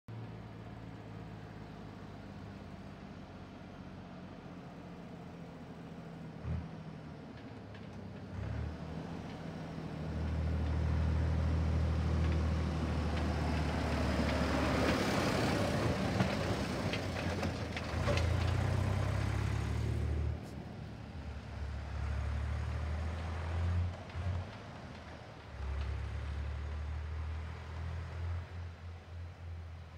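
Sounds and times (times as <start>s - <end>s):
tractor diesel engine droning: 0.2s - 29.9s
tyre and road noise: 4.7s - 29.9s.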